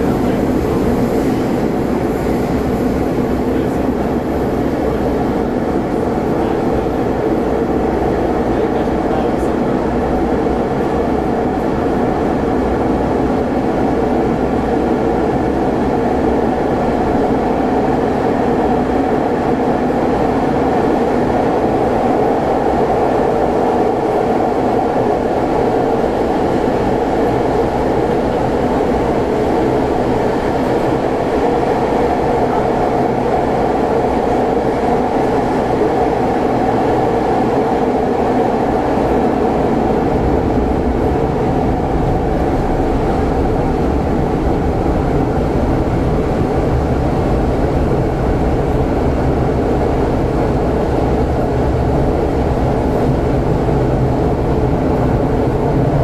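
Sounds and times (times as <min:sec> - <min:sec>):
metro train running: 0:00.0 - 0:56.0.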